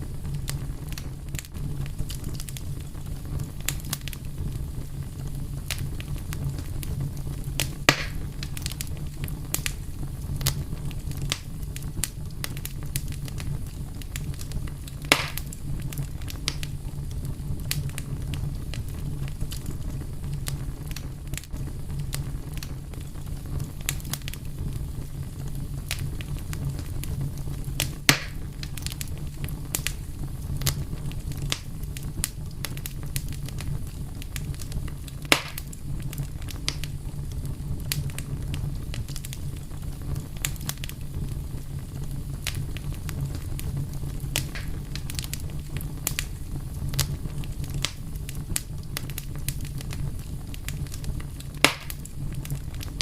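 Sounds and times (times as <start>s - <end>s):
fire pops: 0.0s - 53.0s
wood fire crackling: 0.0s - 53.0s.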